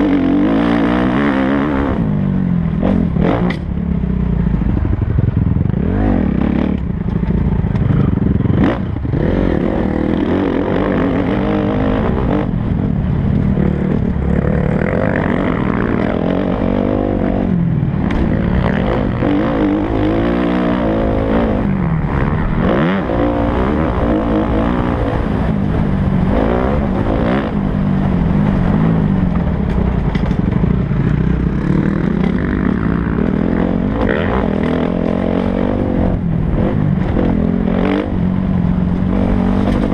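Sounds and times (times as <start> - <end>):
motocross bike engine revving: 0.0 - 3.8, 4.9 - 12.8, 13.6 - 29.0, 30.9 - 39.9.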